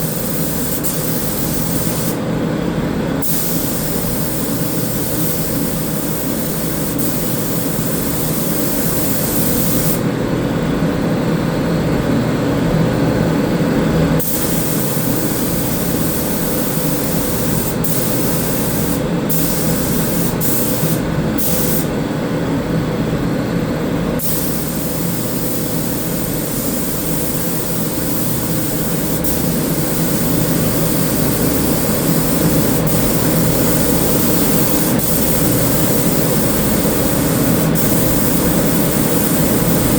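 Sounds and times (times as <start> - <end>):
paint spray gun hissing: 0.0 - 2.2, 3.2 - 10.0, 14.2 - 21.9, 24.2 - 39.9.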